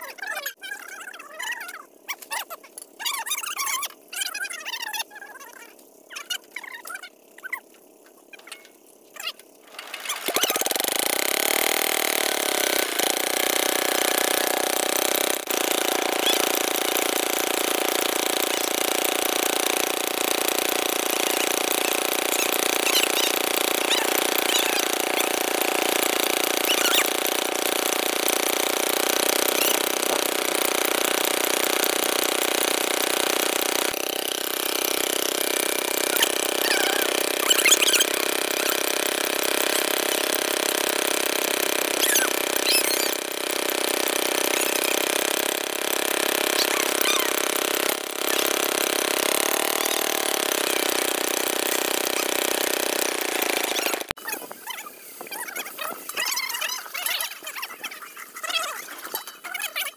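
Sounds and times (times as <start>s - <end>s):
engine running: 3.6s - 54.2s.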